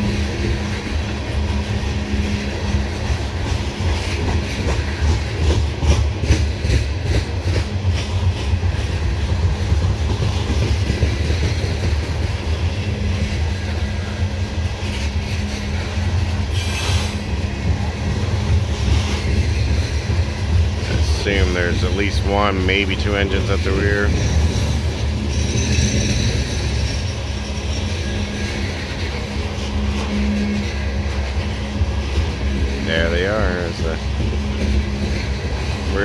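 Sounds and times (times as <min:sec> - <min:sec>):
steel wheels rumbling on rail: 0:00.0 - 0:36.0
wheels clattering over rail joints: 0:00.0 - 0:36.0.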